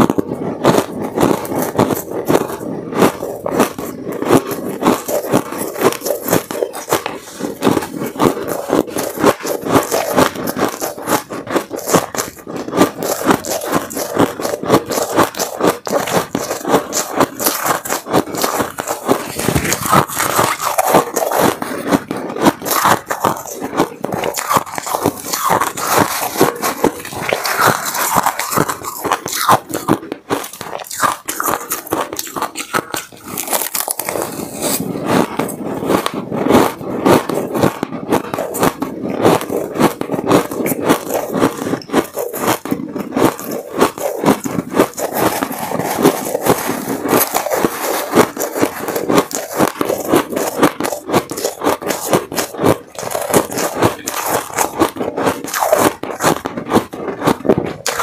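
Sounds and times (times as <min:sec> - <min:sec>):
shaved ice being chewed: 0:00.0 - 0:58.0
metal spoon scraping ice: 0:00.8 - 0:58.0.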